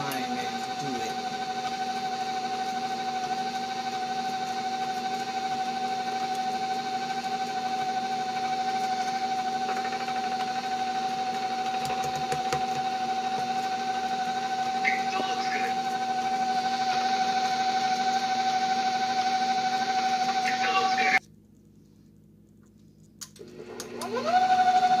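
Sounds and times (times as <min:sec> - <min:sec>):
electric mixer whining: 0:00.0 - 0:21.2, 0:23.4 - 0:25.0.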